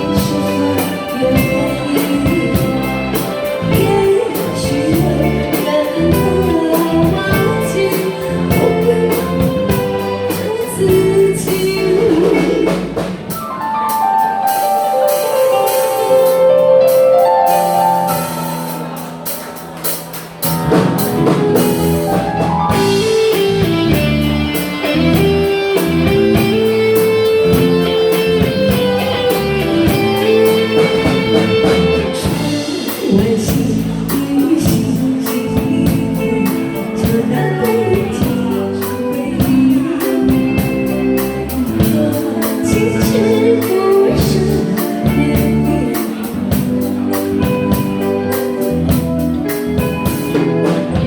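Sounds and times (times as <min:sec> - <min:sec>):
pop song with guitar and drums: 0:00.0 - 0:51.0.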